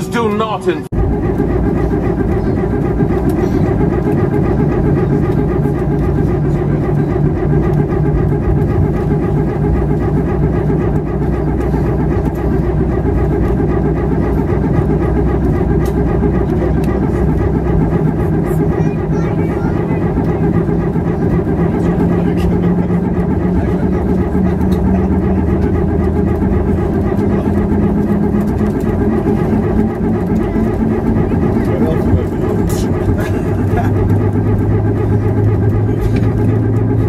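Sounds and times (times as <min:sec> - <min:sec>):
jet engines droning: 0:00.0 - 0:37.0
humming tone: 0:00.9 - 0:37.0.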